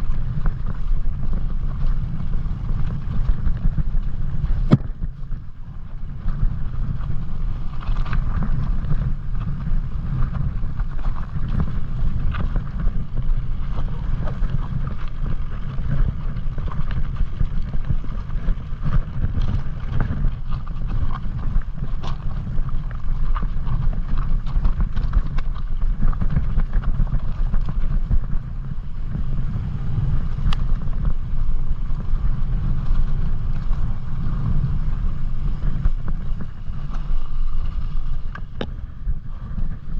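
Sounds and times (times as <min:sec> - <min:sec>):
bike clicks and rattles: 0:00.0 - 0:39.9
bike tyres rolling on snow: 0:00.0 - 0:39.9
wind buffeting microphone: 0:00.0 - 0:39.9.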